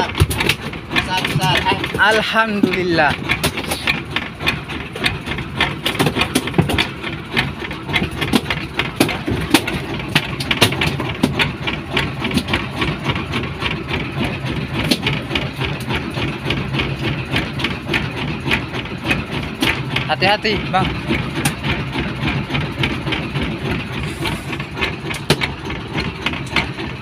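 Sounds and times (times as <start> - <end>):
boat engine idling: 0.0 - 27.0
sharp clicks and knocks: 0.0 - 27.0.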